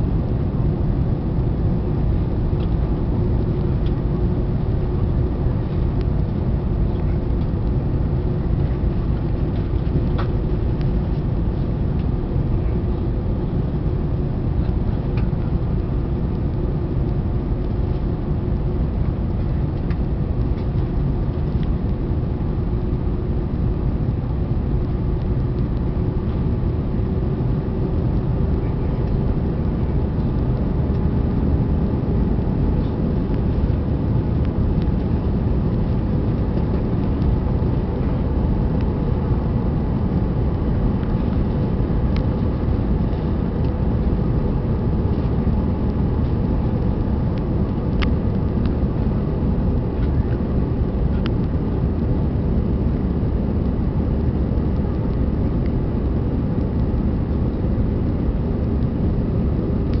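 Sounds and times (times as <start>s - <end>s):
jet engine hum: 0.0s - 60.0s.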